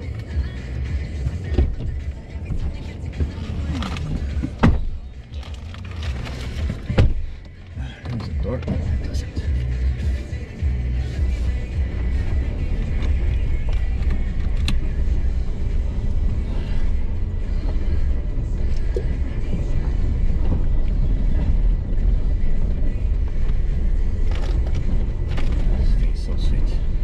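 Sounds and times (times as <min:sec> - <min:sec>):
off-road vehicle engine and tyres rumbling: 0:00.0 - 0:27.0.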